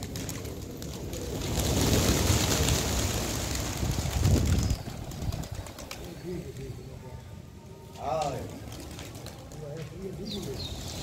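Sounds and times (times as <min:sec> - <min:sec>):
pigeon wings clattering: 0:00.0 - 0:06.3, 0:08.1 - 0:11.0.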